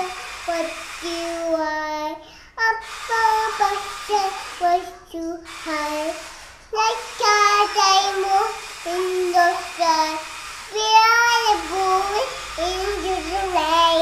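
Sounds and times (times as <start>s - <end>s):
girl singing: 0.0s - 14.0s.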